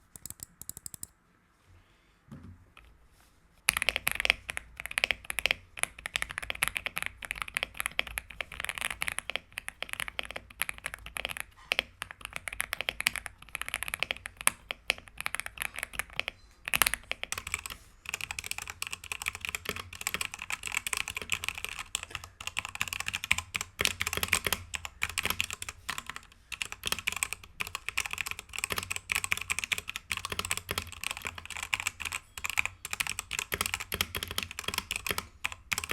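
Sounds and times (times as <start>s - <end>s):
fast typing on mechanical keyboard: 3.7s - 35.9s.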